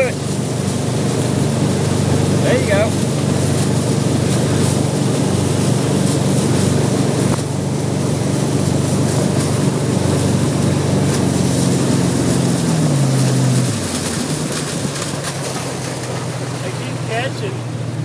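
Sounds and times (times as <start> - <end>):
boat engine running: 0.0 - 18.0
rushing water: 0.0 - 18.0.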